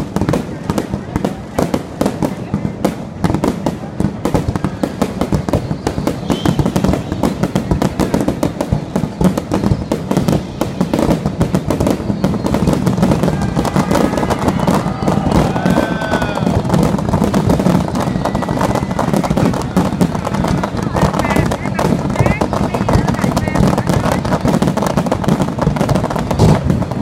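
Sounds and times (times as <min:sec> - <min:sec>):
fireworks crackling and popping: 0:00.0 - 0:27.0.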